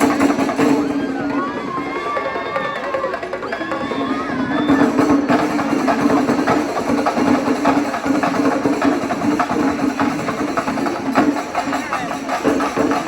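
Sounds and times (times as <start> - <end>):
percussion ensemble drumming: 0.0 - 13.0.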